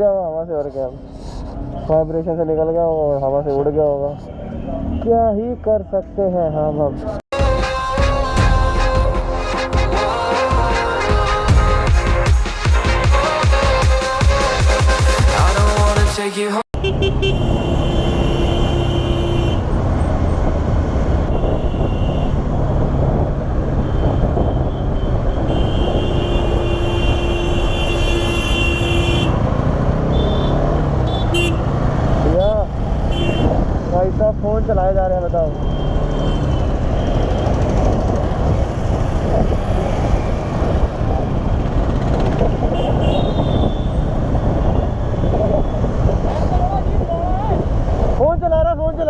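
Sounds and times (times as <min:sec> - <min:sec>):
road and wind noise: 0:00.0 - 0:07.4, 0:16.8 - 0:49.0.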